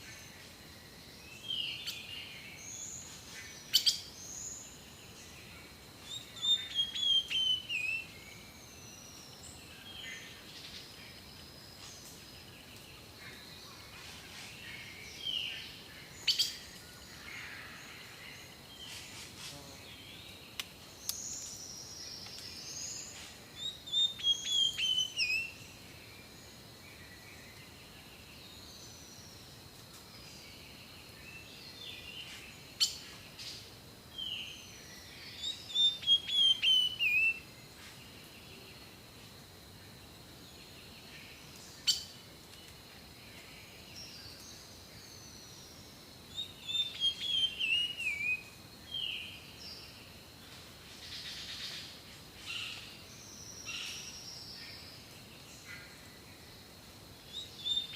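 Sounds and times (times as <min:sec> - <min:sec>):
songbirds singing: 0:00.0 - 0:57.9.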